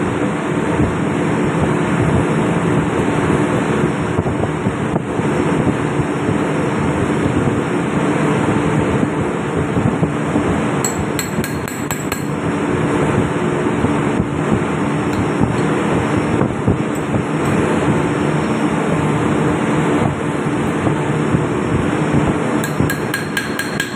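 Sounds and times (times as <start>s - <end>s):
engine room machinery hum: 0.0s - 23.9s.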